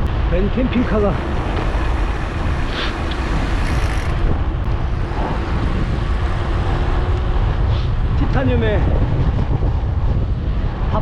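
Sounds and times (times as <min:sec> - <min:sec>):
road noise from bicycle: 0:00.0 - 0:11.0
wind rumbling on microphone: 0:00.0 - 0:11.0.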